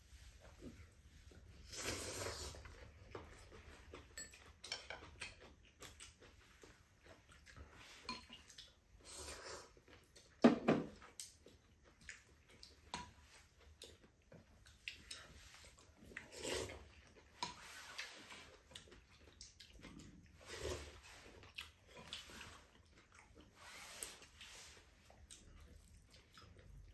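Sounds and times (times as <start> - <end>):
noodles slurped and chewed: 0.3 - 10.4, 11.0 - 26.9.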